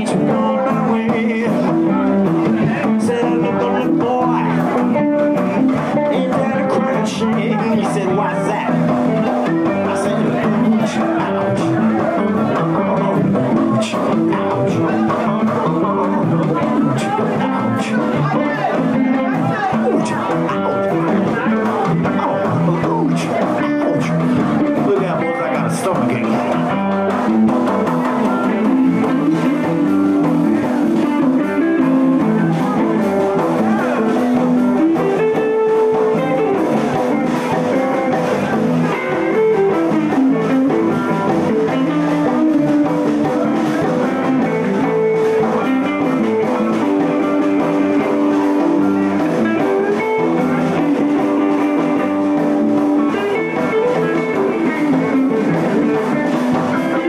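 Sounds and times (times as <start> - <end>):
blues band playing: 0.0 - 57.0
lead guitar solo: 0.0 - 57.0.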